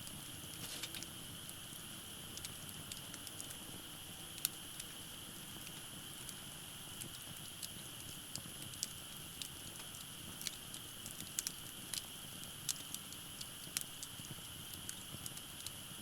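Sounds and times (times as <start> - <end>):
low hiss: 0.0 - 16.0
wood fire crackling: 0.0 - 16.0.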